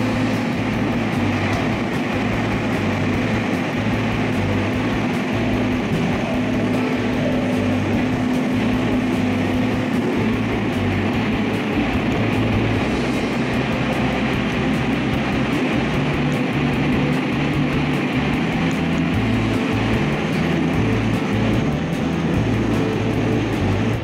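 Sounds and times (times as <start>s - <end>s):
background music with bass and beat: 0.0s - 24.0s
electric train running on rails: 0.0s - 24.0s.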